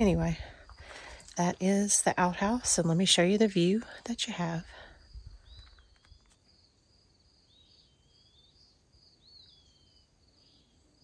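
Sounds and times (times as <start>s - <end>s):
insect chirping: 0.0s - 4.0s, 4.6s - 11.0s.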